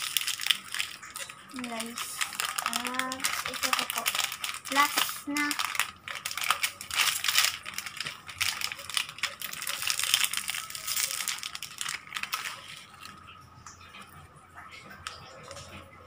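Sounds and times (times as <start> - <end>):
snack wrapper crinkling: 0.0 - 13.4.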